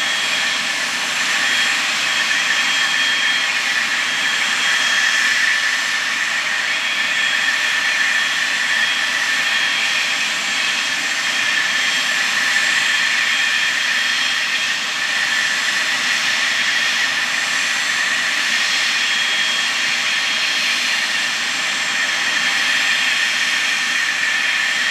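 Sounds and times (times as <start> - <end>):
jet engine fan whine: 0.0 - 24.9.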